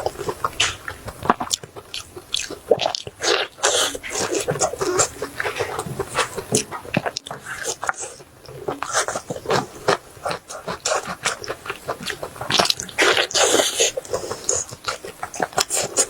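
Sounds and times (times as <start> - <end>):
chewing and lip-smacking: 0.0 - 16.0.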